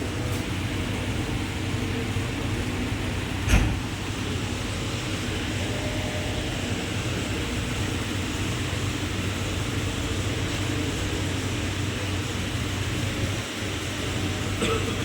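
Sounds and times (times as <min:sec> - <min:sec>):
furnace low drone: 0:00.0 - 0:15.0.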